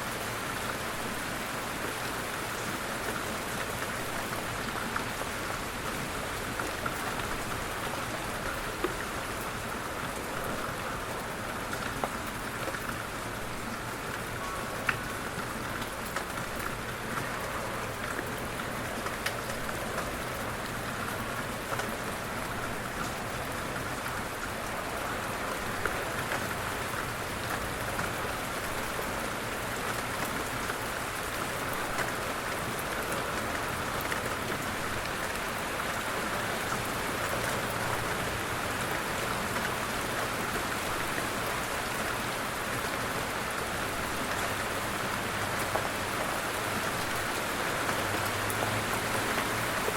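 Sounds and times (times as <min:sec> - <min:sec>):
light rain falling: 0:00.0 - 0:49.9
raindrops ticking on a surface: 0:00.0 - 0:49.9.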